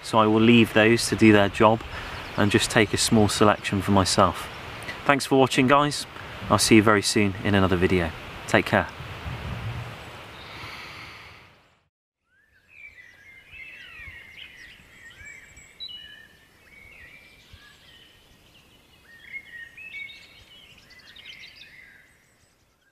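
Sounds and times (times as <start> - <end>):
songbirds singing: 0.0 - 8.0, 10.0 - 10.9, 12.2 - 22.9
faint outdoor background noise: 0.0 - 22.9.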